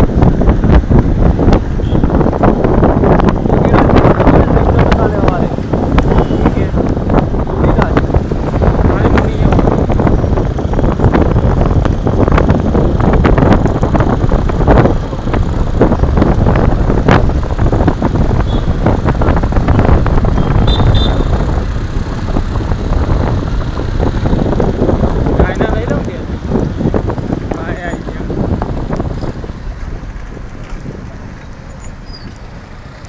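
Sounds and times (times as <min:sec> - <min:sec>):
traffic: 0:00.0 - 0:33.0
wind buffeting microphone: 0:00.0 - 0:33.0.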